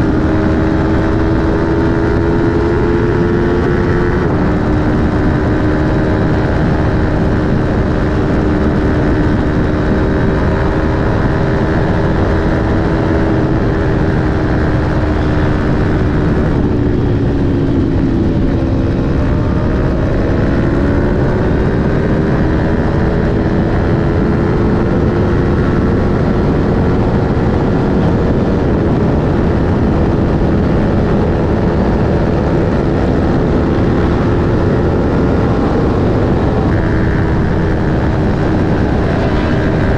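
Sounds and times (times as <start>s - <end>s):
motorcycle engine running hard: 0.0s - 39.9s
wind rush: 0.0s - 39.9s.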